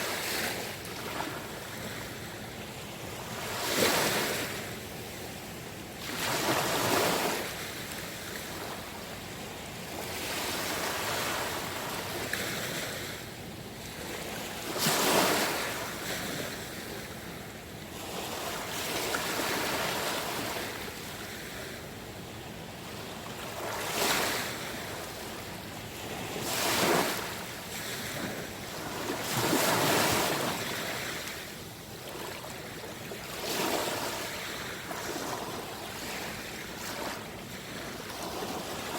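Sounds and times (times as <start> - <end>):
small sea waves washing ashore: 0.0 - 21.9, 22.8 - 38.9.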